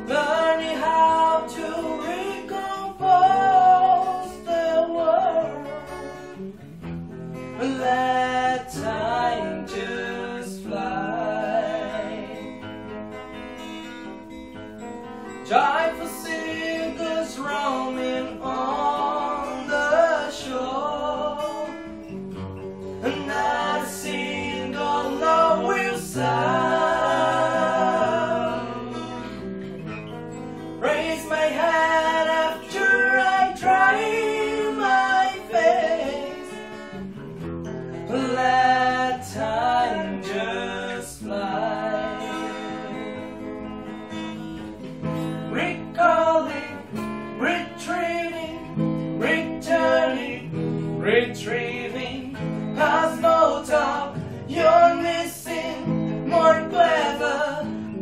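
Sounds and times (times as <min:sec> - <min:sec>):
young men singing together: 0:00.0 - 0:05.7, 0:07.6 - 0:12.4, 0:15.4 - 0:21.7, 0:23.0 - 0:29.4, 0:30.8 - 0:36.7, 0:38.1 - 0:43.3, 0:45.5 - 0:57.8
acoustic guitars strummed: 0:00.0 - 0:58.0.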